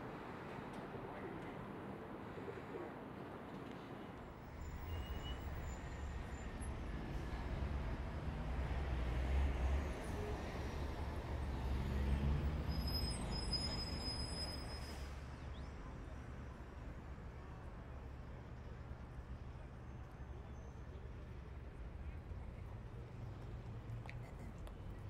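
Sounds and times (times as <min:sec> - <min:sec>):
low rumble of city traffic: 0:00.0 - 0:25.0.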